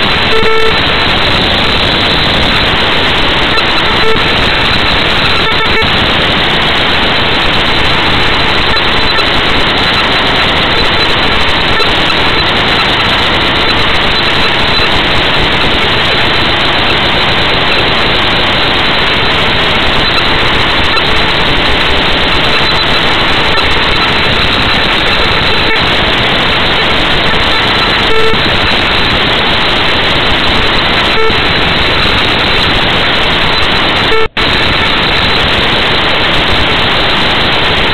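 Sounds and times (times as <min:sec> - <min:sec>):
static hiss: 0:00.0 - 0:37.9.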